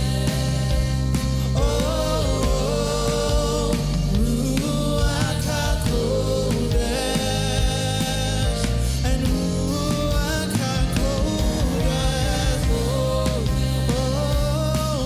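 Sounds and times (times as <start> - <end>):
band with keyboard and bass: 0.0 - 15.0
sustained singing: 0.0 - 15.0.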